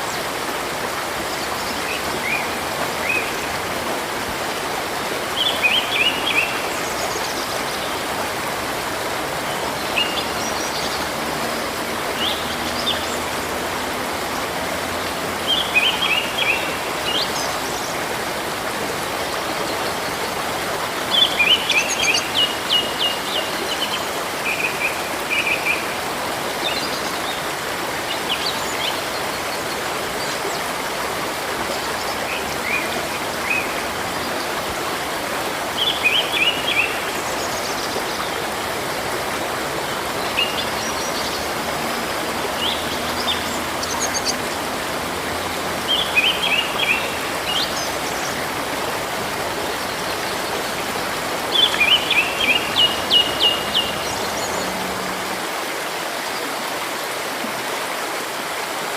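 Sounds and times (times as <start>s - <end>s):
songbirds chirping: 0.0s - 56.8s
river water flowing: 0.0s - 58.9s.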